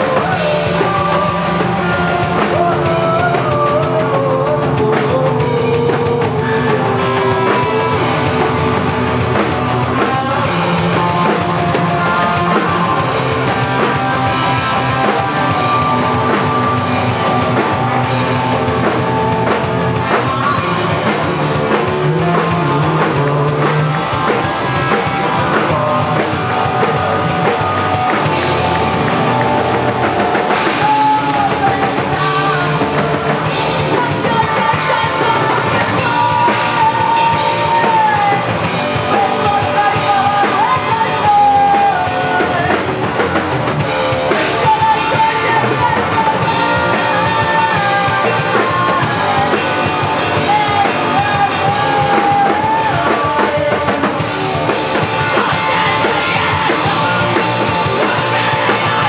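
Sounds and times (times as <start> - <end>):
drum kit: 0.0 - 59.0
guitar: 0.0 - 59.0.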